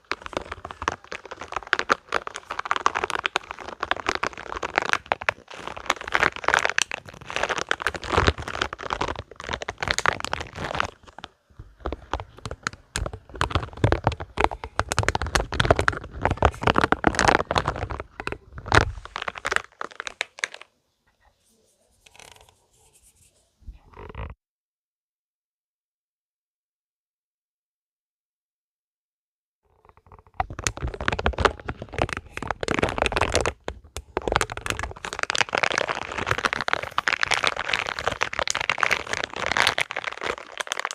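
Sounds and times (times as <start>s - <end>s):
rubber balls squeezed and rubbed: 0.0s - 24.4s, 30.0s - 40.9s.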